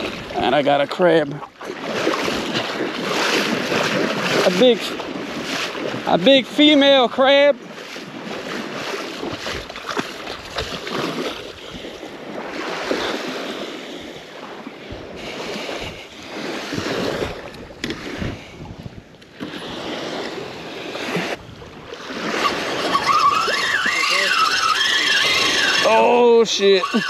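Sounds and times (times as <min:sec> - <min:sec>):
wind buffeting microphone: 0:00.0 - 0:06.5, 0:07.5 - 0:27.0
small waves washing on beach: 0:00.0 - 0:27.0.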